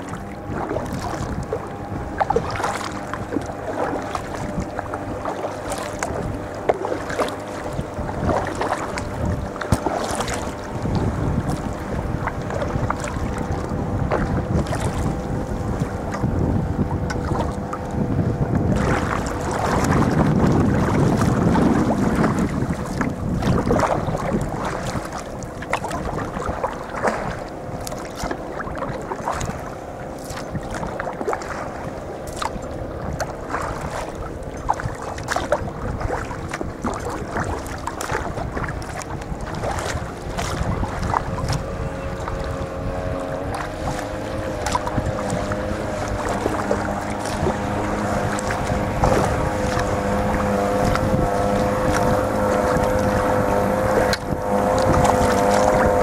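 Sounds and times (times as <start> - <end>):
paddle splashing and dripping water: 0.0 - 56.0
wind buffeting microphone: 0.0 - 56.0.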